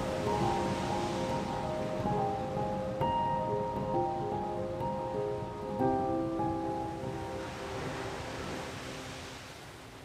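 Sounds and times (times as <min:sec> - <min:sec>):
water and waves washing: 0:00.0 - 0:10.0.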